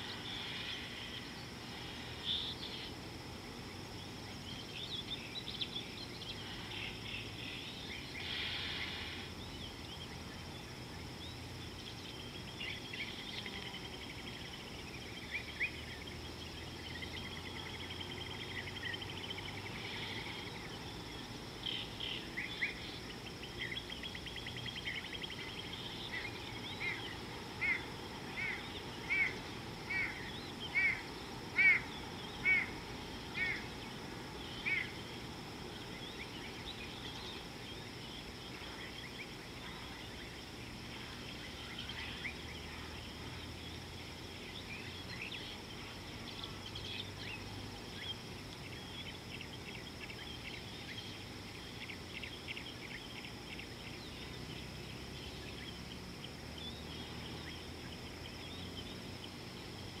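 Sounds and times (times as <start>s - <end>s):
small birds chirping: 0.0s - 60.0s
steady outdoor hiss: 0.0s - 60.0s.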